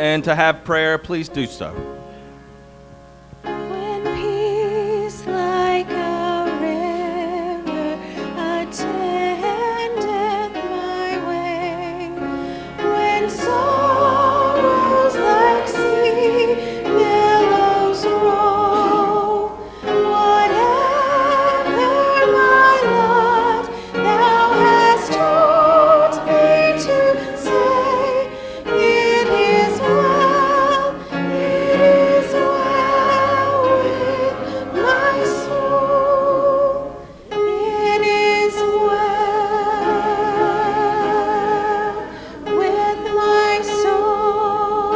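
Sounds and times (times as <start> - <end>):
congregation singing a hymn: 3.4 - 44.9.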